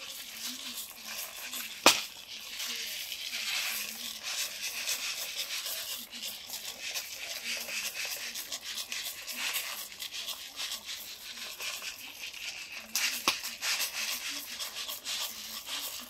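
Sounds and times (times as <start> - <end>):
wood fire crackling: 0.0 - 15.9
food bubbling in a pan: 0.0 - 16.0.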